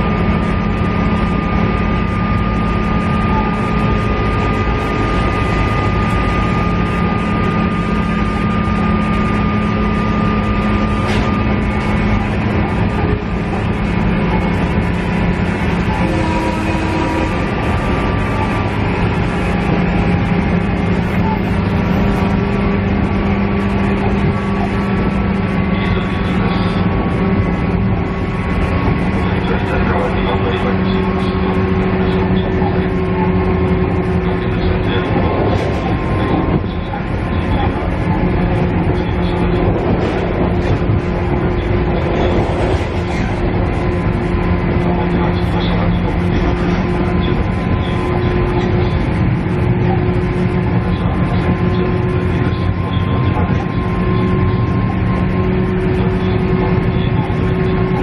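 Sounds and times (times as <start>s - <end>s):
diesel engine drone: 0.0s - 58.0s
train running gear rumble: 0.0s - 58.0s.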